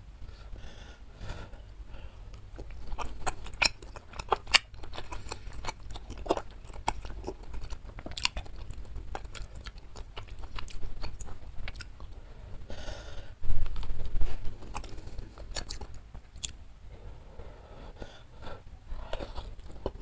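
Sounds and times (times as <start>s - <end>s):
chewing chewy meatballs: 2.2s - 17.1s, 18.0s - 20.0s.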